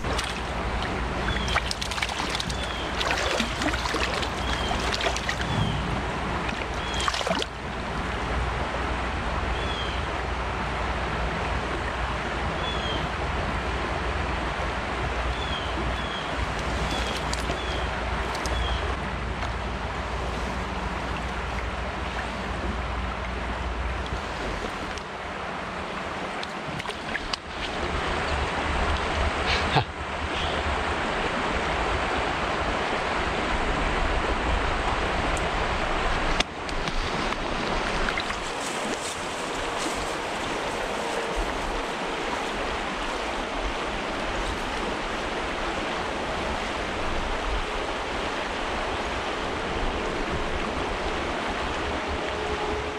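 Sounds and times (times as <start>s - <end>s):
creek water rushing: 0.0s - 52.9s
wind rumble on microphone: 0.0s - 52.9s.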